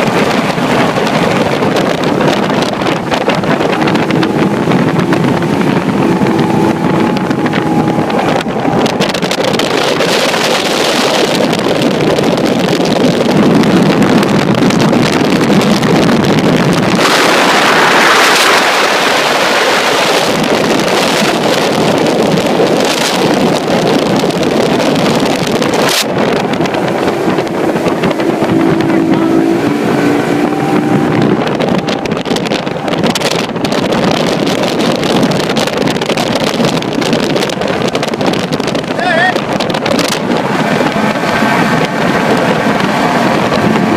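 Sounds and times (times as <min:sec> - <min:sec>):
speedboat engine: 0:00.0 - 0:43.9
water noise: 0:00.0 - 0:43.9
wind rush on microphone: 0:00.0 - 0:43.9.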